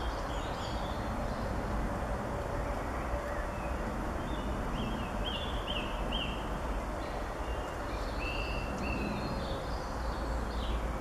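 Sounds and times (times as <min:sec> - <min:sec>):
small birds chirping: 0:00.0 - 0:01.6, 0:03.1 - 0:11.0.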